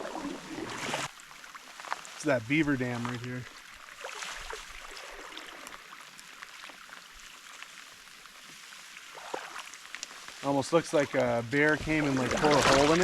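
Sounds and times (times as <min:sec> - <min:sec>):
rain on water: 0:00.0 - 0:13.0
raindrop ticks: 0:01.1 - 0:03.7, 0:04.9 - 0:13.0.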